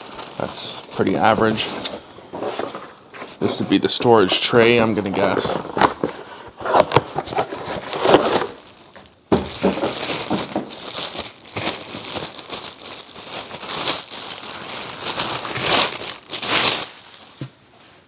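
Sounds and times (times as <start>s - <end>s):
plastic bag crinkling: 0.0s - 17.5s.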